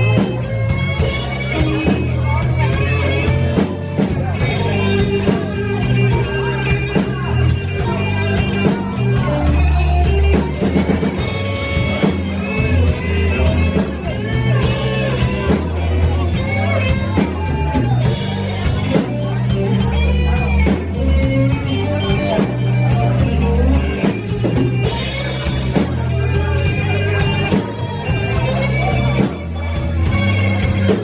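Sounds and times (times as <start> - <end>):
bass line: 0.0 - 31.0
blues band playing: 0.0 - 31.0
electric guitar lead: 0.0 - 31.0
steady drum beat: 0.0 - 31.0.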